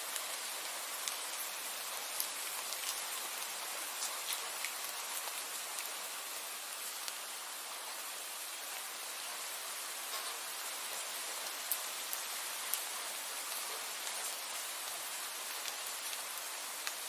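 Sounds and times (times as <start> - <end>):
raindrops pattering on surface: 0.0 - 17.0
steady rainfall hiss: 0.0 - 17.0.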